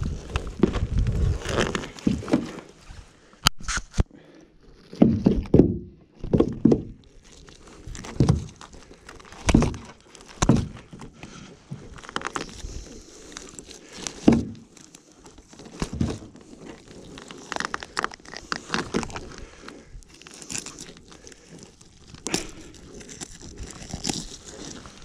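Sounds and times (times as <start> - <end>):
rustling of net and clothing: 0.0 - 3.8, 7.0 - 25.0.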